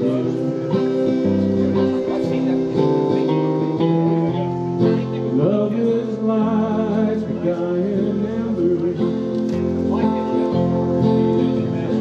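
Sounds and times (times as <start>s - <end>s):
guitar: 0.0s - 12.0s
live band playing country ballad: 0.0s - 12.0s.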